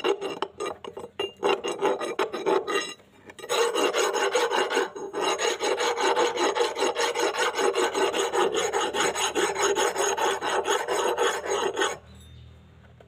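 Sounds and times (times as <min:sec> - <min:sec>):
hand file rasping on steel: 0:00.0 - 0:12.0.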